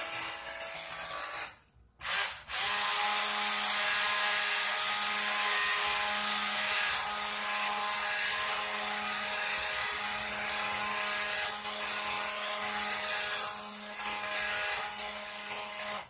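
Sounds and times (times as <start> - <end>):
stick blender motor whine: 0.0 - 16.0.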